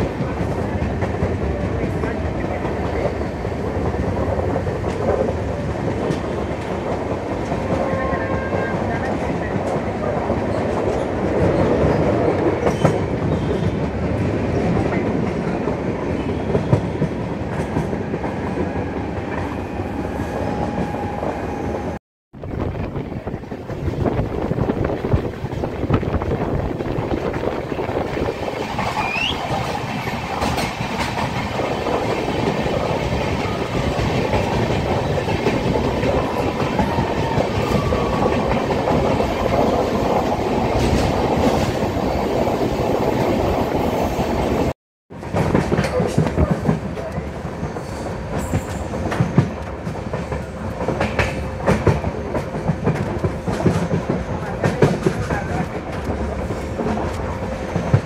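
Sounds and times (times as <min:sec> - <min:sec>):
clickety-clack over rail joints: 0:00.0 - 0:19.6, 0:22.9 - 0:42.0, 0:44.5 - 0:58.0
train wheels rumbling on rails: 0:00.0 - 0:58.0.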